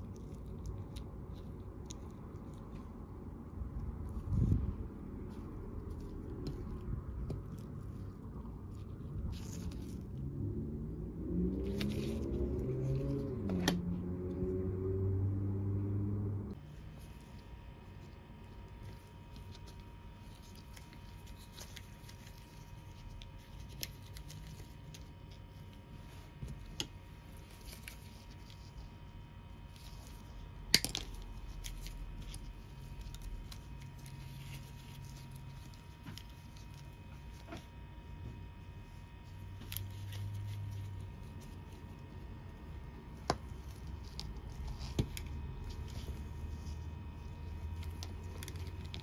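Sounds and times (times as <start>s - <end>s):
small parts and wire handling: 0.0s - 10.2s, 16.6s - 49.0s
steady low hum: 0.0s - 49.0s.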